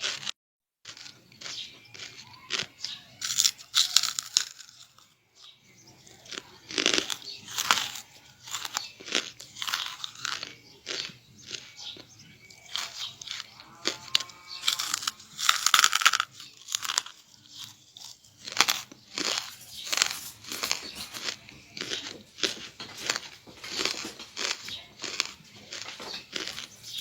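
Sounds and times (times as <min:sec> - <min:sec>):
crunchy chewing: 0:00.0 - 0:27.0.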